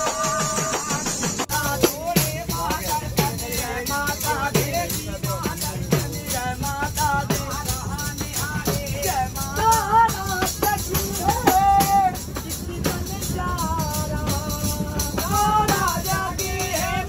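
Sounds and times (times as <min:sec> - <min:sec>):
light percussion: 0:00.0 - 0:17.0.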